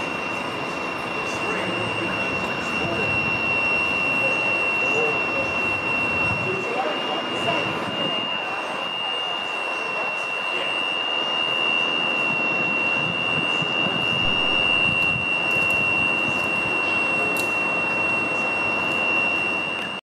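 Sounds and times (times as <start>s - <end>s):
high-pitched tone: 0.0s - 20.0s
truck engine and hydraulic drone: 0.0s - 20.0s.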